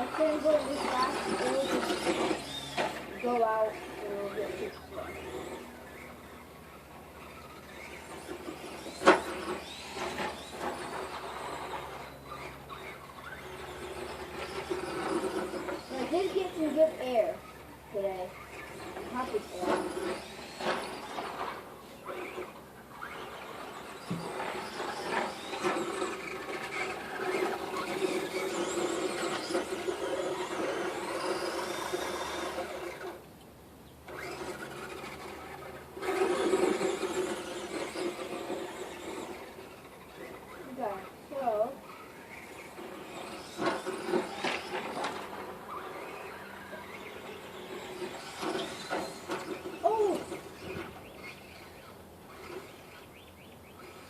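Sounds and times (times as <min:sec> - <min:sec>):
electric rc car whine: 0:00.0 - 0:54.0.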